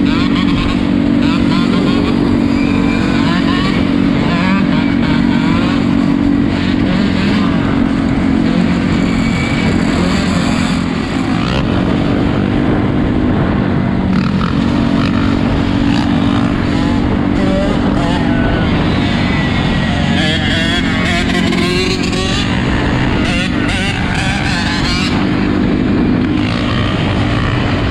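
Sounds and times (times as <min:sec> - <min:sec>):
four-wheeler engines running: 0:00.0 - 0:27.9.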